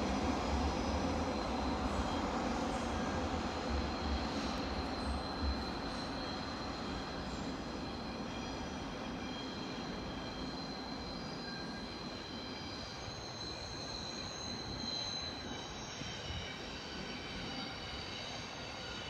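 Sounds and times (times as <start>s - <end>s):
train wheels squealing: 0.0s - 19.0s.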